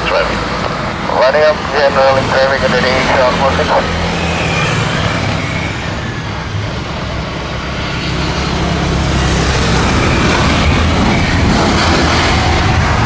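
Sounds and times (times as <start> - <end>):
jet engines humming and rushing: 0.0 - 13.0.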